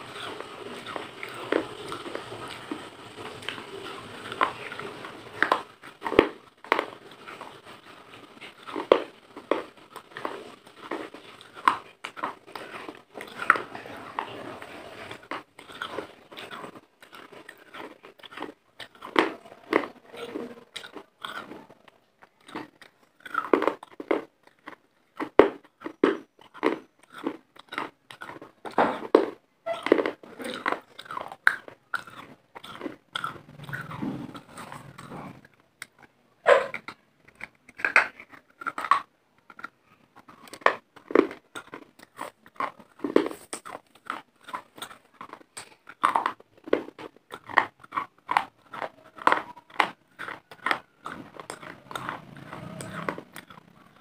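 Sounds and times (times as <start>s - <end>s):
clay being chewed crunching: 0.0s - 54.0s.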